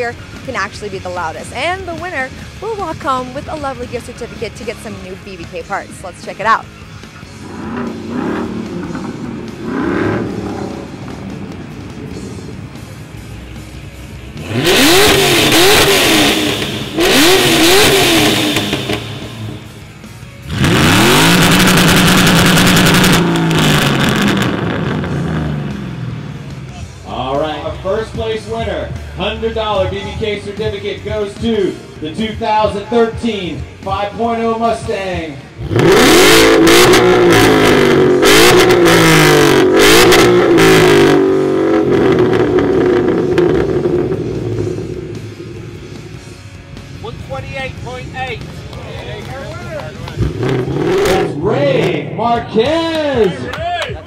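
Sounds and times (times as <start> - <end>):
car engine revving: 0.0 - 53.5.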